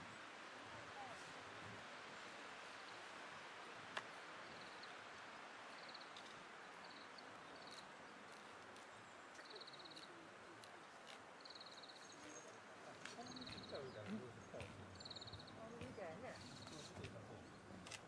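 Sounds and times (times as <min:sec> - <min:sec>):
wind in forest: 0:00.0 - 0:18.0.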